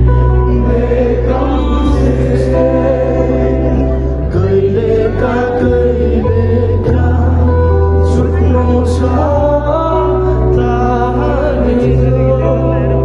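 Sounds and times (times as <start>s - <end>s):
held bass notes: 0.0s - 13.0s
live band music over pa: 0.0s - 13.0s
person singing: 0.0s - 13.0s.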